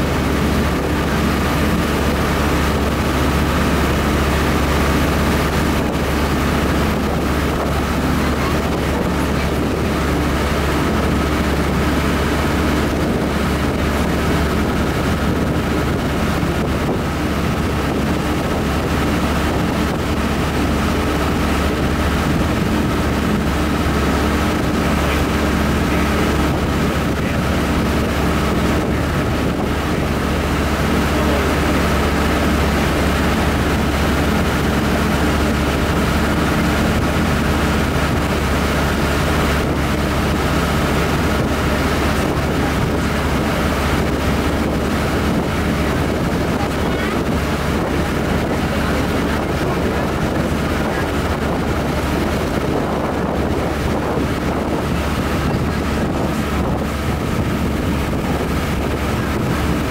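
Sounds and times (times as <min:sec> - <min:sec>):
boat engine running: 0:00.0 - 0:59.9
water washing along hull: 0:00.0 - 0:59.9
wind buffeting microphone: 0:00.0 - 0:59.9.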